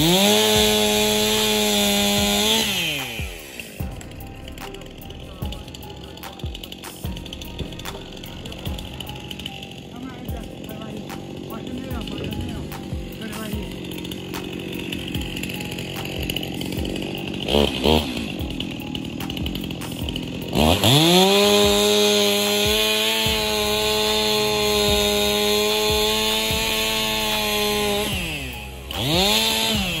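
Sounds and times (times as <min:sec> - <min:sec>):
chainsaw engine idling and revving: 0:00.0 - 0:30.0.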